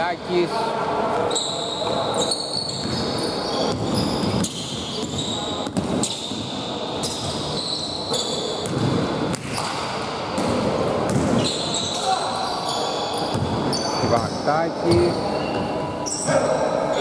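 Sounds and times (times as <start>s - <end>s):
sneakers squeaking: 1.1s - 17.0s.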